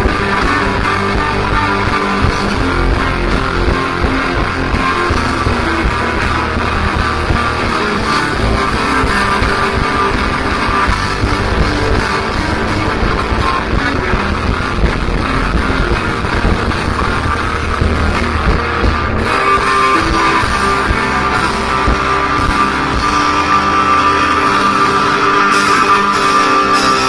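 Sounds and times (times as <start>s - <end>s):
live rock band playing: 0.0s - 27.0s
sustained guitar notes: 0.0s - 27.0s.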